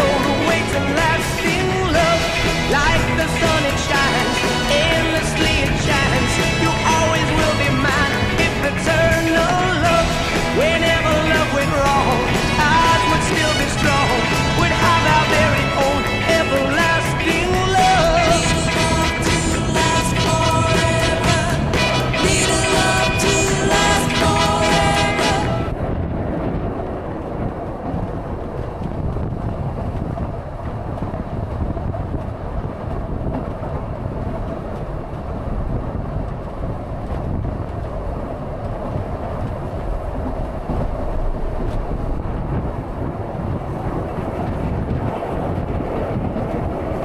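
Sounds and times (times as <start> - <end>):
train carriage wheels rumbling on rails: 0.0 - 47.0.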